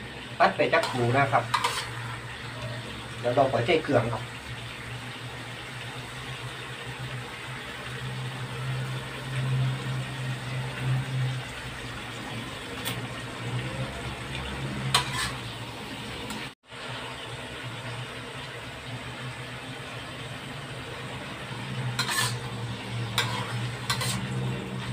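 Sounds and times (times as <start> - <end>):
frying hiss: 0.0 - 24.9
gas burner rumble: 0.0 - 24.9.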